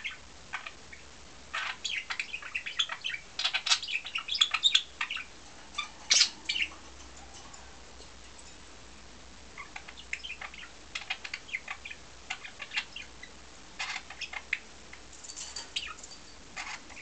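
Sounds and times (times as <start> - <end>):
budgerigars chirping: 0.0 - 7.7, 9.5 - 17.0.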